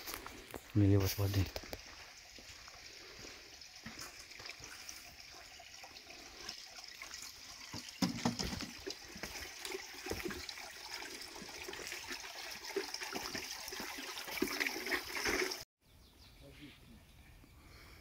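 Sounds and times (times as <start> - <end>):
water trickling into a pool: 0.0 - 15.7.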